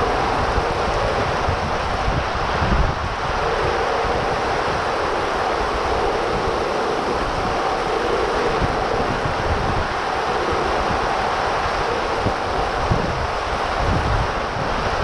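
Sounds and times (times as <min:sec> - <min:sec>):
heavy rain pouring: 0:00.0 - 0:15.0
wind gusts buffeting microphone: 0:00.0 - 0:15.0.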